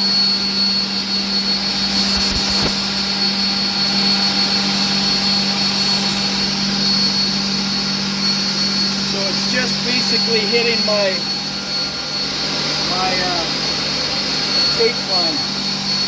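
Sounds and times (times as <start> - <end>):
machine drone with whine: 0.0 - 16.0.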